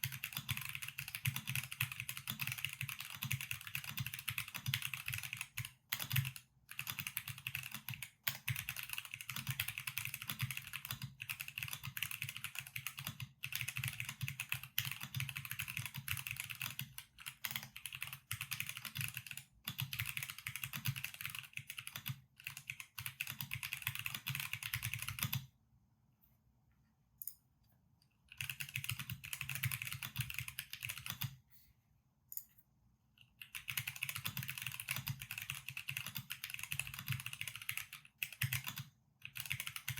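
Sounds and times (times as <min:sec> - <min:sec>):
mechanical keyboard typing: 0:00.0 - 0:25.5, 0:28.3 - 0:31.4, 0:33.2 - 0:39.9.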